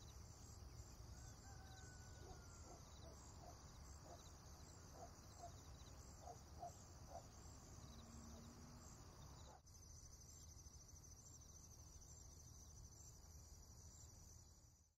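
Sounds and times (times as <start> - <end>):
insects trilling: 0.0 - 14.2.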